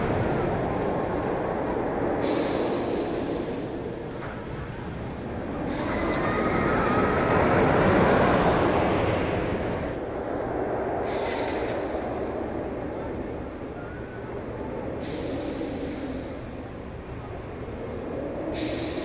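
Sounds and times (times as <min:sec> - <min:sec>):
roller coaster wheel and track noise: 0:00.0 - 0:19.0.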